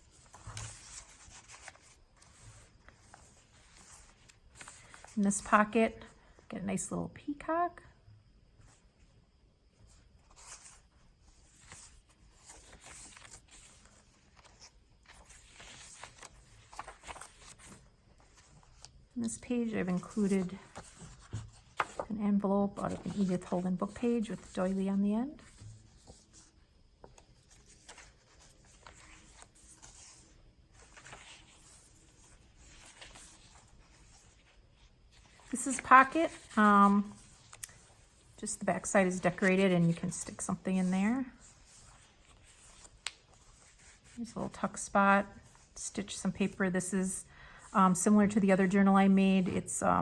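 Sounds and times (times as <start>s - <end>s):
paper pages rustling: 0.0s - 5.5s, 9.9s - 46.6s.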